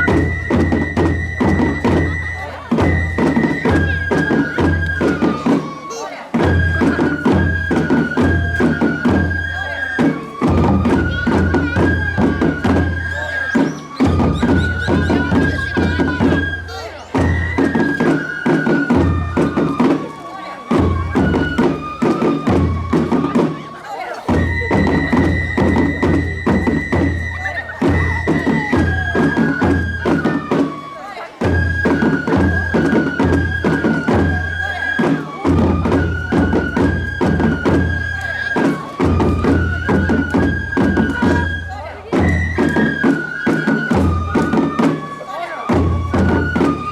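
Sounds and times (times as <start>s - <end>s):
bamboo flute high notes: 0.0s - 46.9s
percussion strikes: 0.0s - 46.9s.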